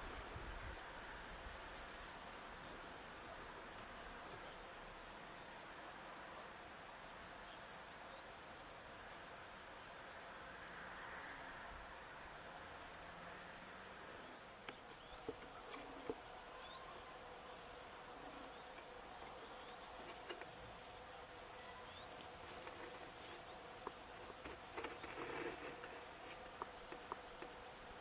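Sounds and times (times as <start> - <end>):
insects buzzing: 0.0 - 28.0.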